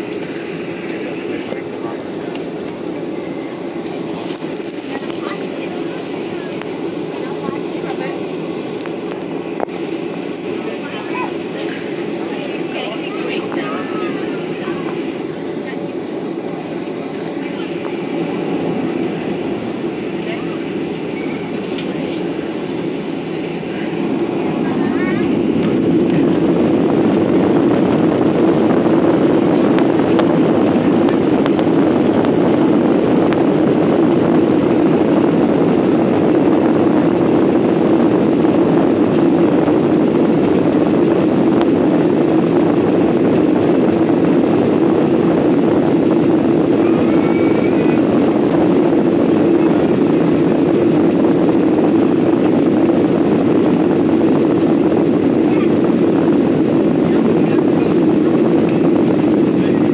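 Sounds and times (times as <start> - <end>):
jet engine noise in cabin: 0.0 - 59.9.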